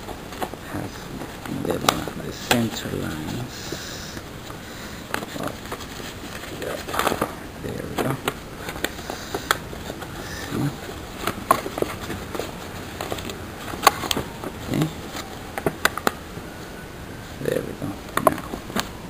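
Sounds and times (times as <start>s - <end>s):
paper crackling while folded: 0.0s - 19.0s.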